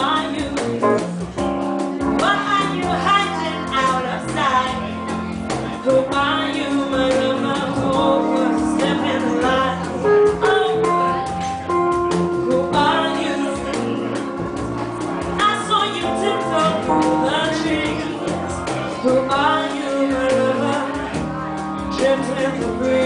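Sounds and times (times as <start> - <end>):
cajon: 0.0 - 23.0
electric bass: 0.0 - 23.0
piano: 0.0 - 23.0.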